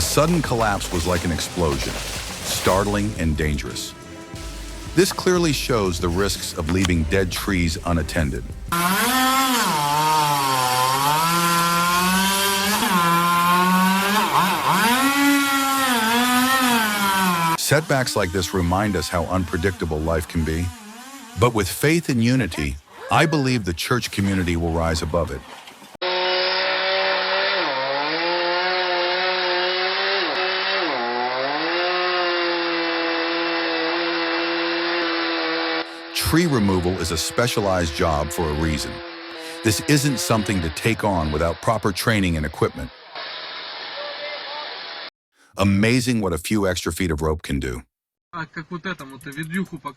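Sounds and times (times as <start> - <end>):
chainsaw cutting wood: 0.0 - 21.7, 26.0 - 45.1.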